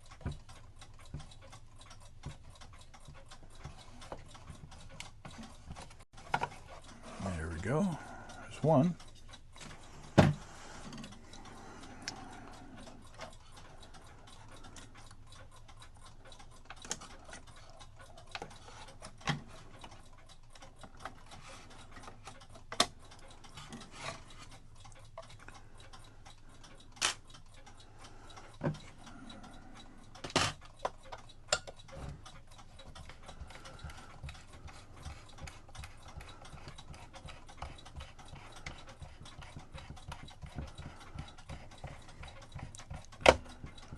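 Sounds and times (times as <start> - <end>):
light clicks of clock parts: 0.0 - 43.9.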